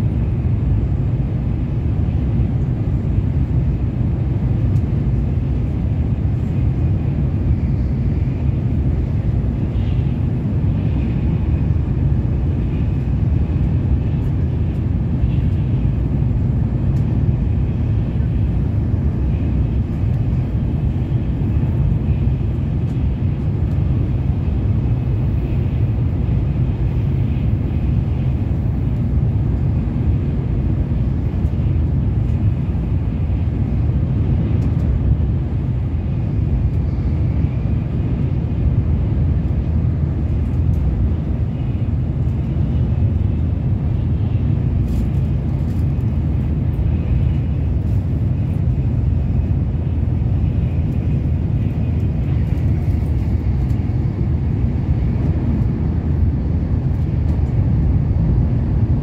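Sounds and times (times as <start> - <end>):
train rumble inside passenger car: 0.0 - 59.0.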